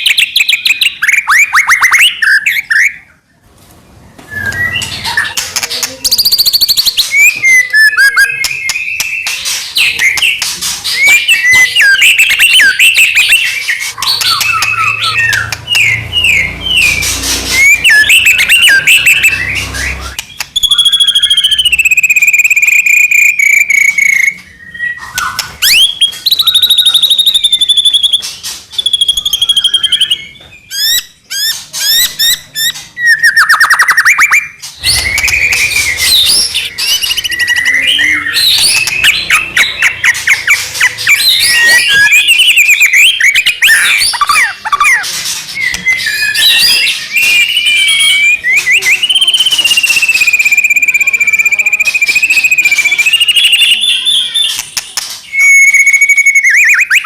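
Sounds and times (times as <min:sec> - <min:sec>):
songbird singing: 0:04.2 - 0:57.0.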